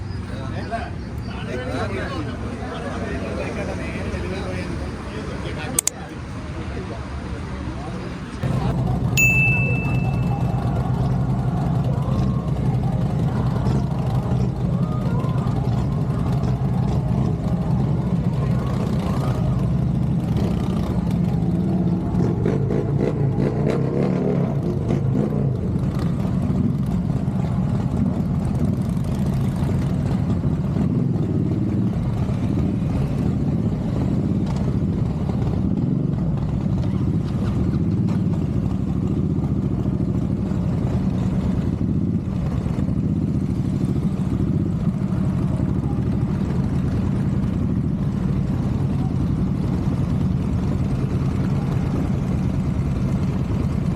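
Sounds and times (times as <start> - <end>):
motorcycle engine running: 7.1 - 53.9.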